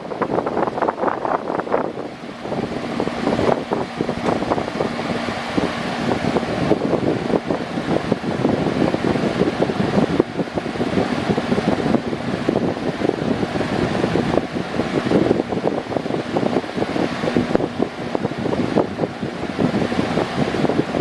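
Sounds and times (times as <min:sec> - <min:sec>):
electric fan air rush: 0:00.0 - 0:21.0
faint motor hum: 0:00.0 - 0:21.0.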